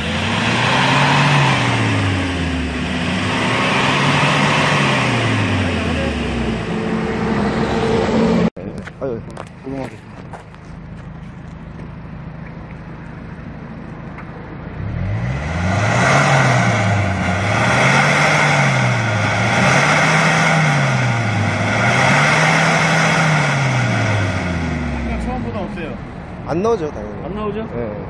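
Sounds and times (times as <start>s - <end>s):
diesel engine idling and revving: 0.0s - 28.0s.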